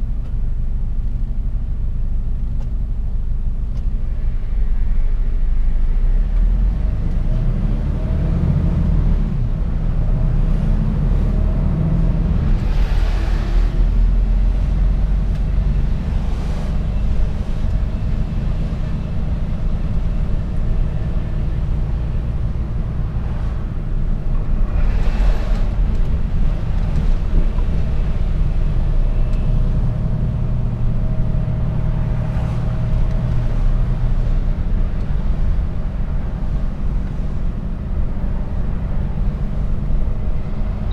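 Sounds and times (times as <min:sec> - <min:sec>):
truck diesel engine and road noise: 0:00.0 - 0:40.9.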